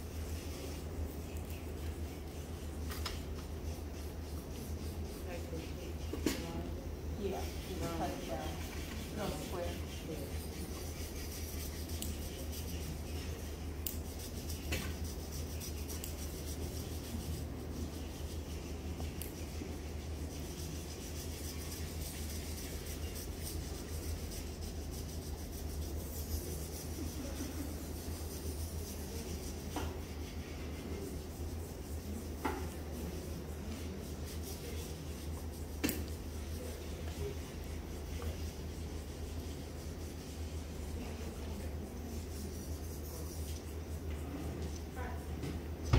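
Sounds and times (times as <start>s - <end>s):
hands rubbing skin: 0.0s - 44.9s
steady low hum: 0.0s - 45.9s.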